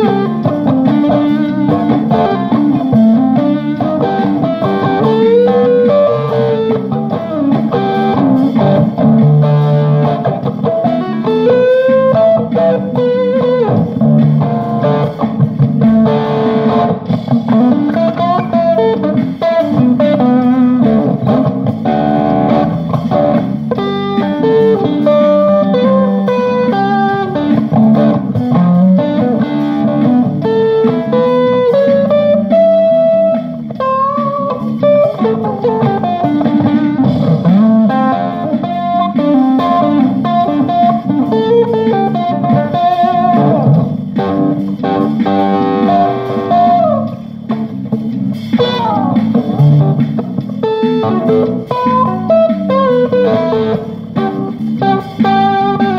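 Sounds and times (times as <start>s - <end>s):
guitar melody: 0.0s - 55.9s.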